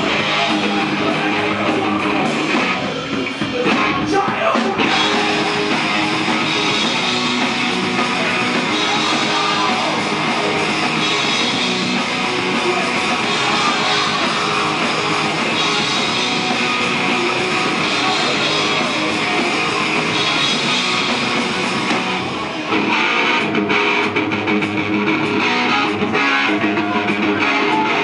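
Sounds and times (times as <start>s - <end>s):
drum kit: 0.0s - 28.0s
electric bass: 0.0s - 28.0s
electric guitar: 0.0s - 28.0s.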